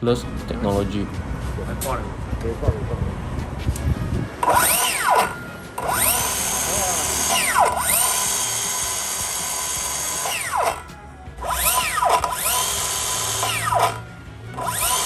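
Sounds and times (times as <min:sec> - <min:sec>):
circular saw whining: 0:00.0 - 0:15.0.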